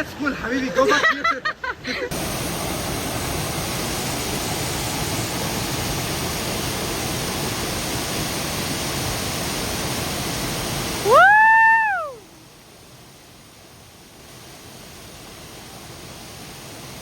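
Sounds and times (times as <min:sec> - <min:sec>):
waterfall rushing: 0:02.1 - 0:17.0.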